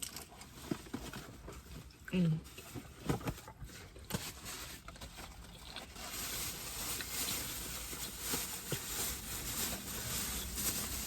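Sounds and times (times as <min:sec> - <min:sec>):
soft rustling hiss: 0:00.4 - 0:11.0.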